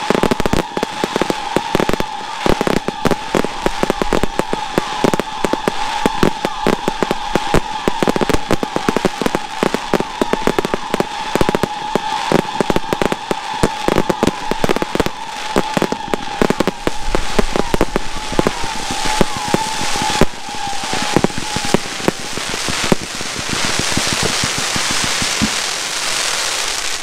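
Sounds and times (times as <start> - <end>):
firework shells bursting: 0.0 - 27.0
fireworks crackling: 0.0 - 27.0.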